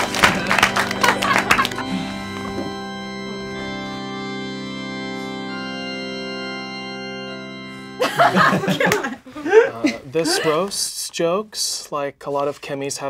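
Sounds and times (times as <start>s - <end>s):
organ playing sustained chords: 0.0s - 10.7s.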